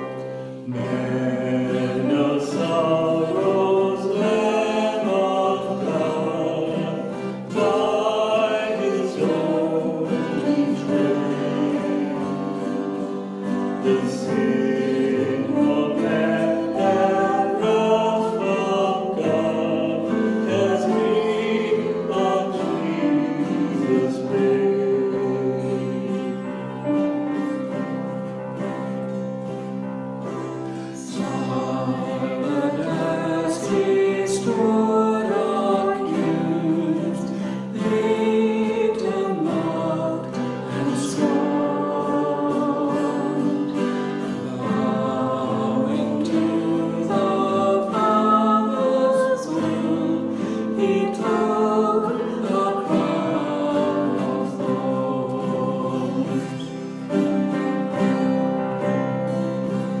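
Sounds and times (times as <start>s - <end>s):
group singing a hymn: 0.0s - 60.0s
instrumental accompaniment: 0.0s - 60.0s.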